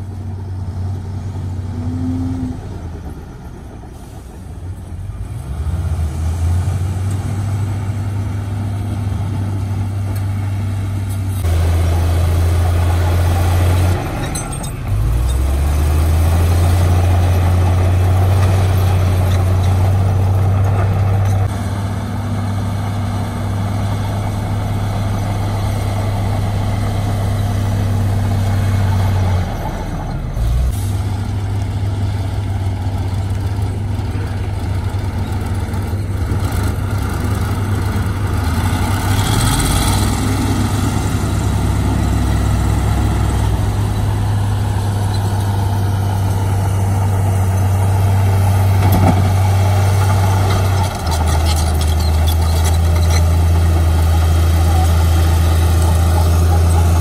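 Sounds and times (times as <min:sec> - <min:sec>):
diesel construction machinery: 0:00.0 - 0:57.0.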